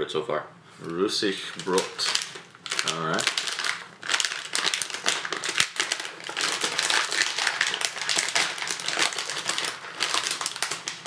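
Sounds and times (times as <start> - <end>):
plastic snack bag crackling: 0.9 - 11.0.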